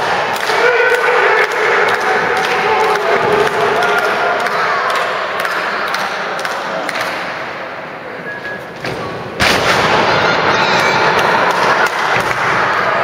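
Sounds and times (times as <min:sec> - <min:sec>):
crowd noise in a hall: 0:00.0 - 0:13.0.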